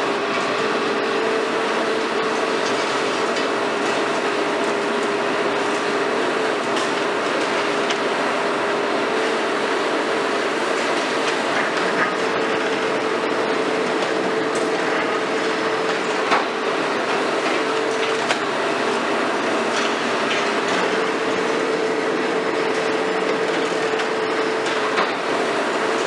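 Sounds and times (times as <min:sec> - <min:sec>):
excavator engine whining: 0:00.0 - 0:26.0.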